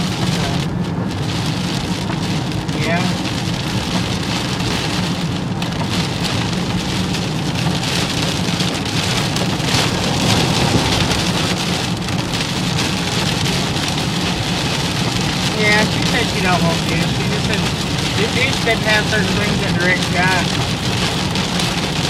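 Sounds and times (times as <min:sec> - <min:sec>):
car rumbling: 0:00.0 - 0:22.0
heavy rain on car roof: 0:00.0 - 0:22.0.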